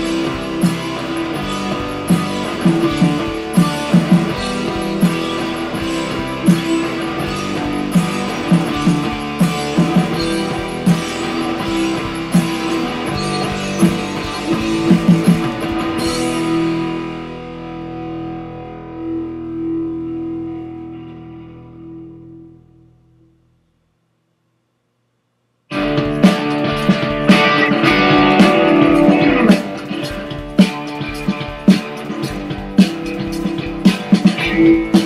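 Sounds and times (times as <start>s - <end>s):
guitar instrumental with beat: 0.0s - 22.6s, 25.7s - 35.0s.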